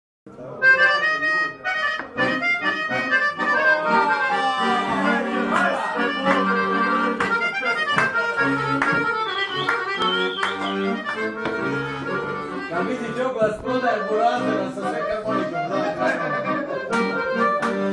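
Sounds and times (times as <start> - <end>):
accordion playing a tune: 0.3 - 17.9.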